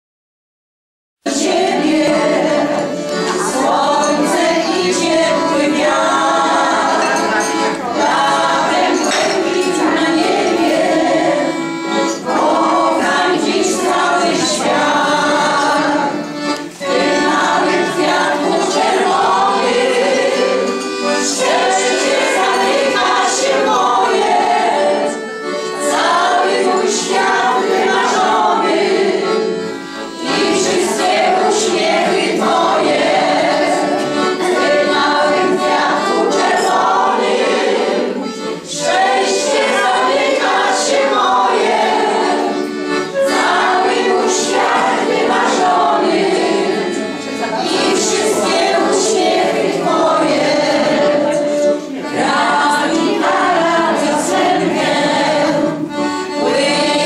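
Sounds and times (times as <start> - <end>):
choir of women singing: 1.3 - 57.0.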